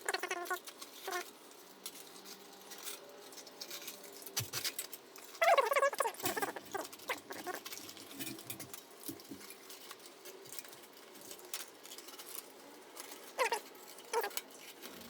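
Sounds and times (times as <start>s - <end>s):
hands scratching and clicking parts: 0.0s - 15.0s.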